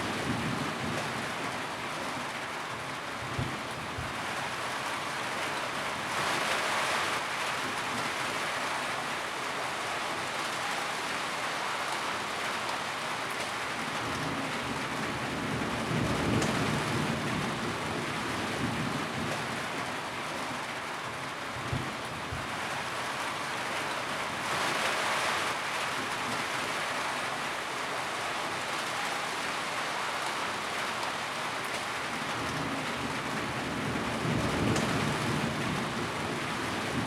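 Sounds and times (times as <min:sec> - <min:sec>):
rain drumming on a tin roof: 0:00.0 - 0:37.0.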